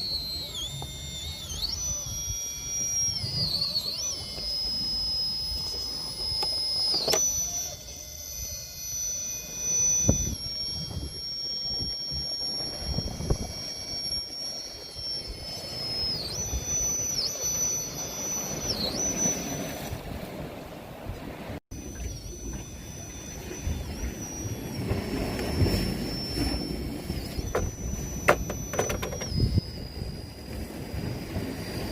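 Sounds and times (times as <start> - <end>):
electric motor whine: 0.0 - 31.9.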